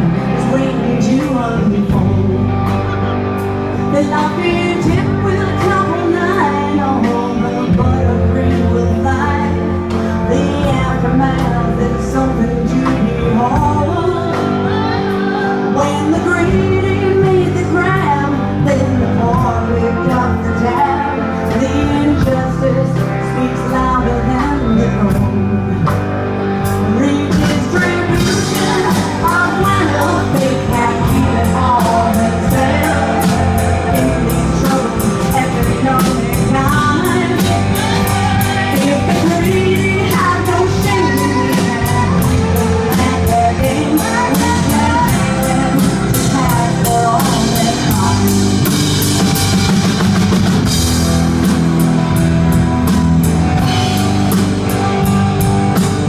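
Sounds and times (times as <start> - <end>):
woman singing: 0.0 - 49.0
punk rock band playing: 0.0 - 56.0.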